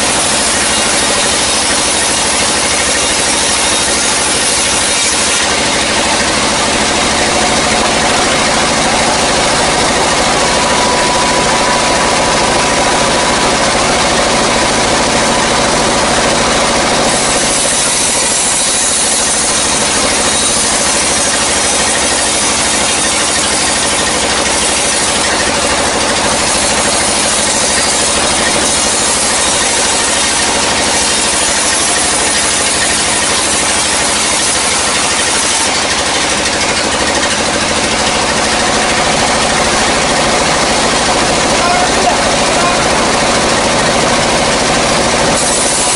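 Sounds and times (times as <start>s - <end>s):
band saw cutting wood: 0.0s - 45.9s
faint machine whine: 0.0s - 45.9s.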